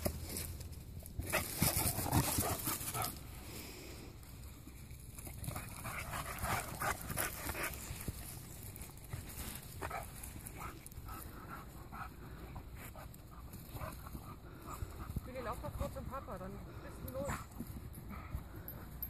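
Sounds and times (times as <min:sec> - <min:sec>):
dogs panting and snuffling: 0:00.0 - 0:19.0.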